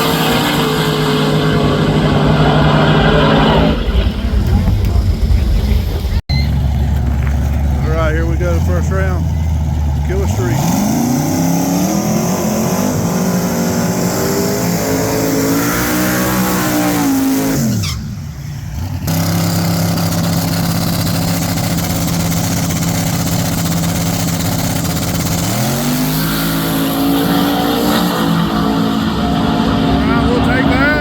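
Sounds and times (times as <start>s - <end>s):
drag truck engine at full throttle: 0.0s - 31.0s.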